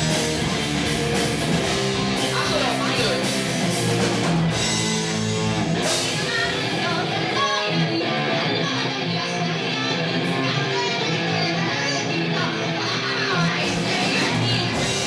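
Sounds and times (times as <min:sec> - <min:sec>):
live rock band playing: 0:00.0 - 0:15.0
strummed electric guitar: 0:00.0 - 0:15.0.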